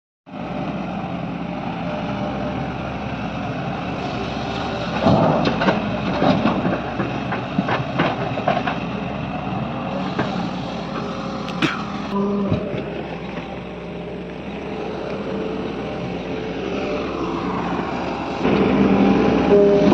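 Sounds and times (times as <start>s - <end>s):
diesel engine running: 0.4s - 19.9s.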